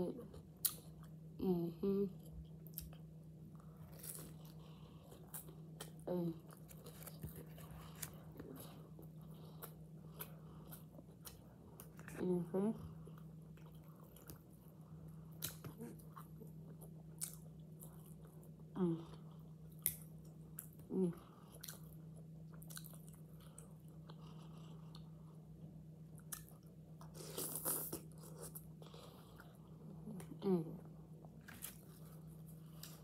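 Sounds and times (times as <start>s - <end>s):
steady low hum: 0.0s - 33.0s
chewing soft vegetables: 2.0s - 33.0s.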